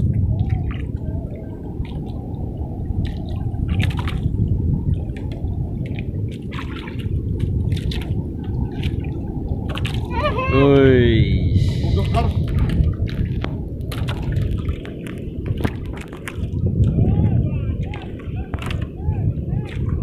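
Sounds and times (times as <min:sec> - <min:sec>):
seawater sloshing at shoreline: 0:00.0 - 0:16.9.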